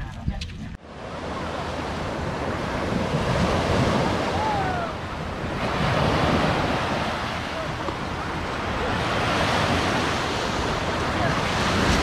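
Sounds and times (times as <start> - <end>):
wind buffeting microphone: 0.0 - 12.0
sea surf washing in: 0.8 - 12.0.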